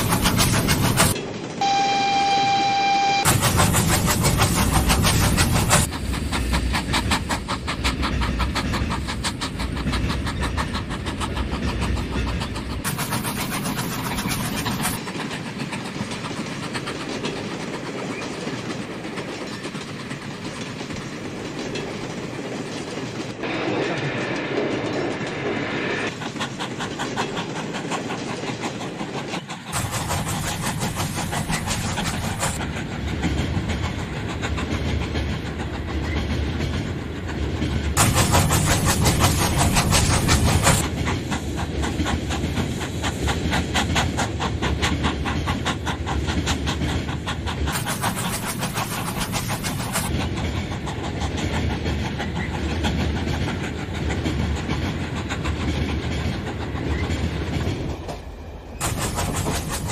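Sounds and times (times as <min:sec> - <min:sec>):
model train wheels clicking: 0:00.0 - 0:01.2, 0:03.3 - 0:23.4, 0:26.1 - 0:59.9.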